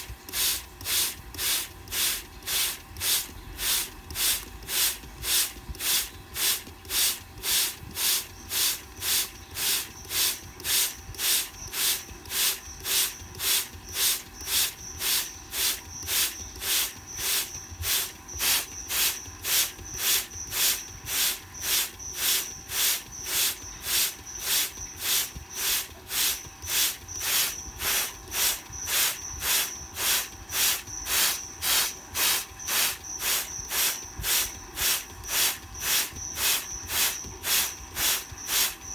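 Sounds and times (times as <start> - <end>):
spray bottle spritzing: 0.0 - 38.9.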